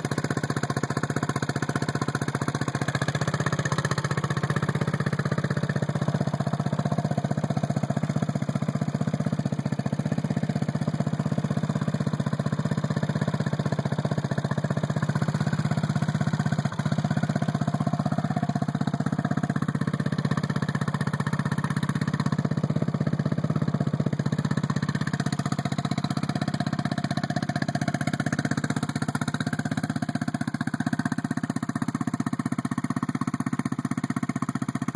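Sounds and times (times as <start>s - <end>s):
engine idling steadily: 0.0s - 34.9s.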